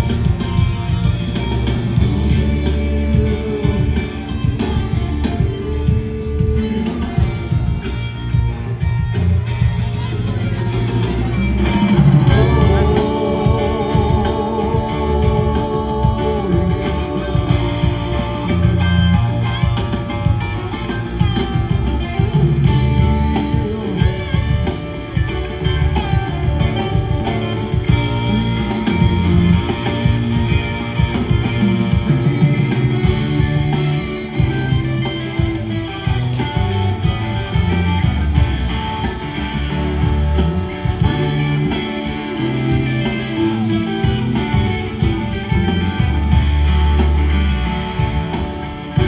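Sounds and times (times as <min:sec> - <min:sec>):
held wavering guitar notes: 0:00.0 - 0:49.0
live rock band: 0:00.0 - 0:49.0.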